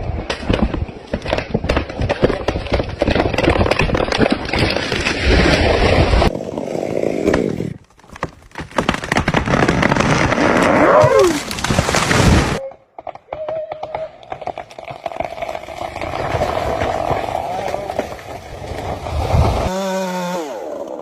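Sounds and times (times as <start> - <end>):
wood snapping and splintering: 0.0 - 6.3, 7.7 - 19.7
tree cracking and crashing down: 0.1 - 6.3, 7.8 - 13.2, 13.8 - 19.7.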